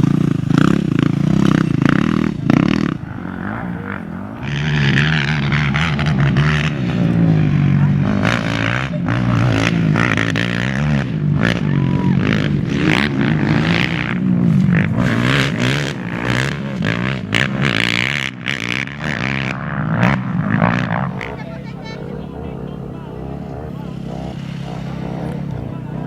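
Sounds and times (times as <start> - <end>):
racing engines revving: 0.0 - 26.0.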